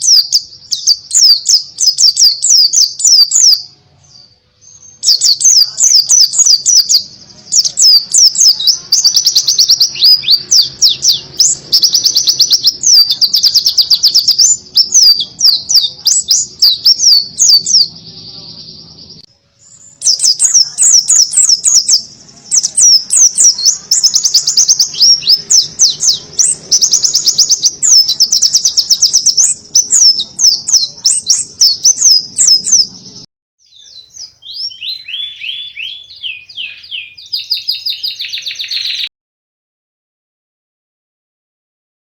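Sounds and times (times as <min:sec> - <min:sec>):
white-eye bird twittering song: 0:00.0 - 0:39.1.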